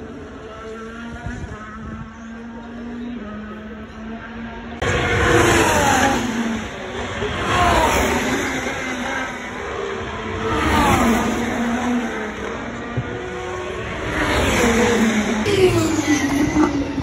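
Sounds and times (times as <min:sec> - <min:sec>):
racing cars passing by: 0:00.0 - 0:17.0.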